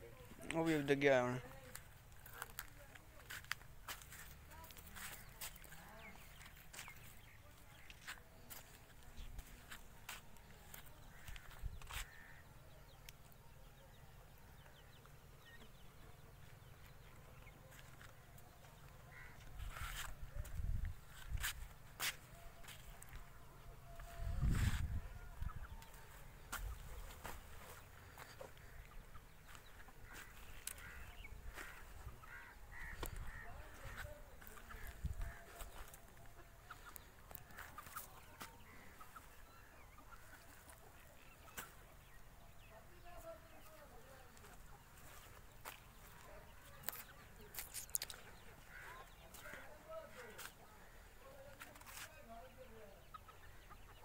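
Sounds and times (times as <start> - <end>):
faint birds chirping: 0.0 - 54.0.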